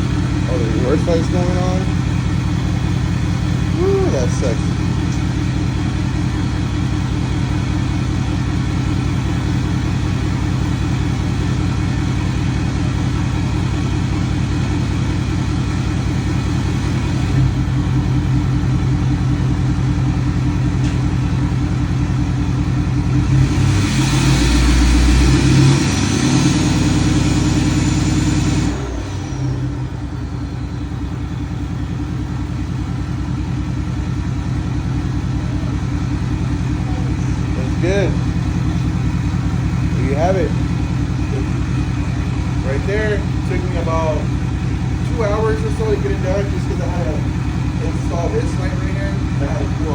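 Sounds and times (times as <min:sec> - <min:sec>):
diesel engine idling: 0:00.0 - 0:49.9
high engine whine: 0:00.0 - 0:49.9.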